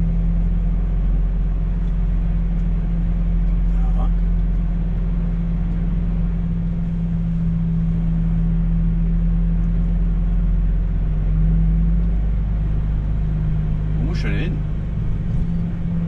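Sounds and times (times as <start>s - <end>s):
diesel truck engine drone: 0.0s - 16.0s
road noise: 0.0s - 16.0s.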